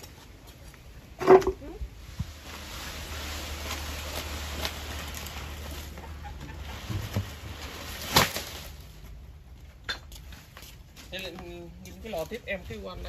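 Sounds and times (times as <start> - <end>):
palm fronds dragged on ground: 0.0 - 9.6, 10.2 - 13.0.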